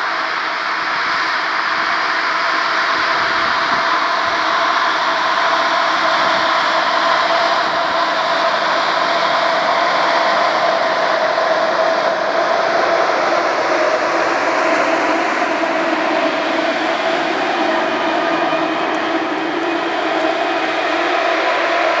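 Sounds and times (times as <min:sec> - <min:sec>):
diesel engine droning: 0:02.9 - 0:22.0.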